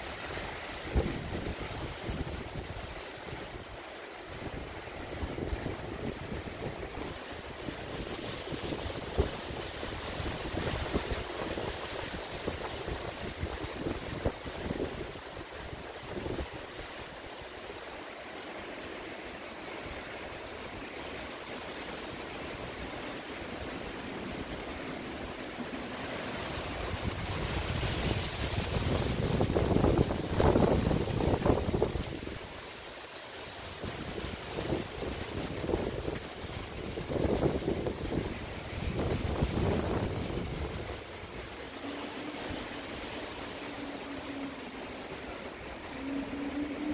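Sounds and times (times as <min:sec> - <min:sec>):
wind buffeting microphone: 0:00.0 - 0:17.5, 0:22.1 - 0:32.6, 0:33.7 - 0:46.9
leaves rustling in wind: 0:00.0 - 0:46.9.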